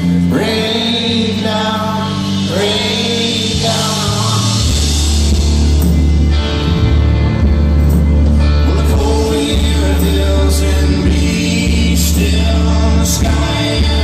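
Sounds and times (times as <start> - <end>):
folk-rock band playing: 0.0 - 14.0
heavy bass and drums: 0.0 - 14.0.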